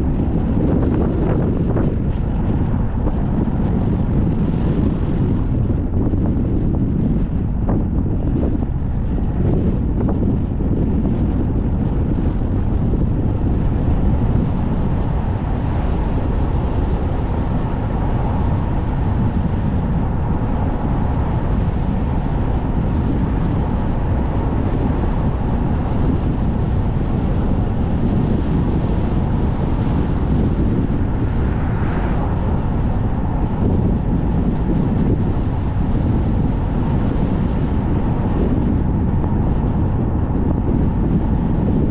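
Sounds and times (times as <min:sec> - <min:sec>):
road noise: 0:00.0 - 0:41.9
wind buffeting microphone: 0:00.0 - 0:41.9.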